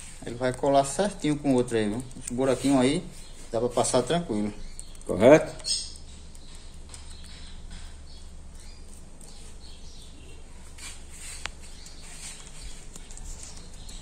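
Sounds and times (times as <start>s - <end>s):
low steady hum: 0.0s - 14.0s
faint bird chirps: 2.6s - 14.0s.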